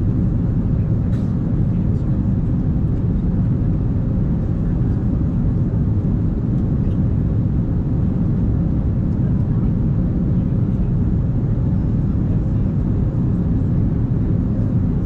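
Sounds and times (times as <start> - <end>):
airplane engines and cabin drone: 0.0 - 15.0.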